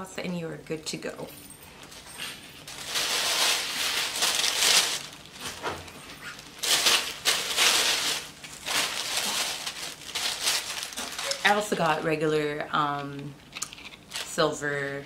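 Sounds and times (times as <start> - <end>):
plastic bag and tissue rustling: 1.7 - 14.6.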